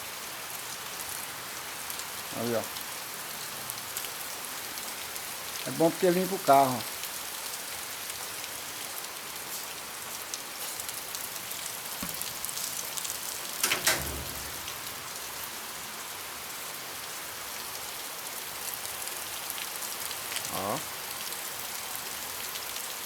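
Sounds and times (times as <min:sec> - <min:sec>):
heavy rain falling: 0:00.1 - 0:23.0.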